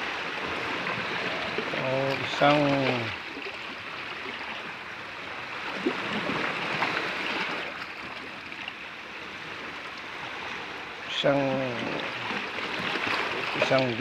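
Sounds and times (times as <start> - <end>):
water rushing among rocks: 0.0 - 14.0.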